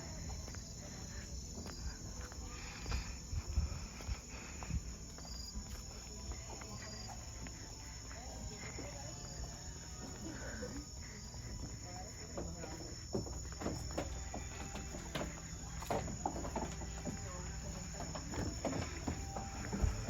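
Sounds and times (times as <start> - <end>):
crickets and night insects trilling: 0.0 - 20.0.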